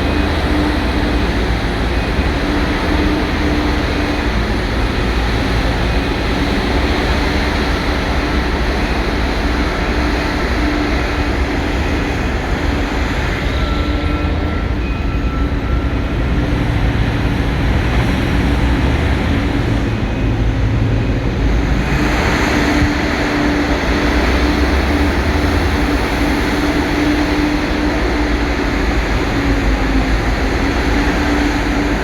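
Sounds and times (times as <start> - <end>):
excavator diesel engine drone: 0.0 - 32.0.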